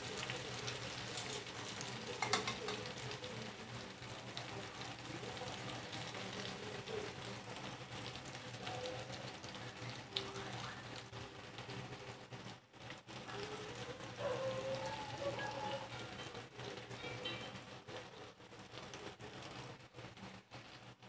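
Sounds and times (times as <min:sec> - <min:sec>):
oil crackling and sizzling: 0:00.0 - 0:21.0.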